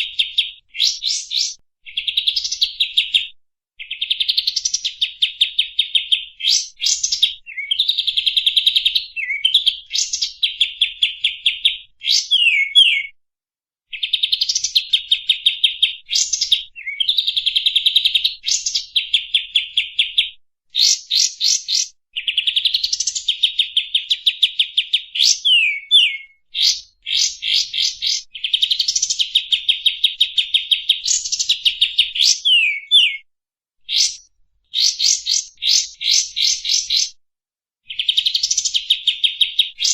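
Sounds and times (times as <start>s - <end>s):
recorded songbird song: 0.0s - 13.2s, 13.9s - 37.2s, 37.8s - 39.9s.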